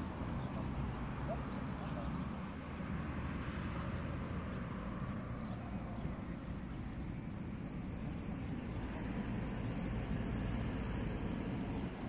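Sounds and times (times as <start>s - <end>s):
low-pitched outdoor rumble: 0.0s - 12.0s.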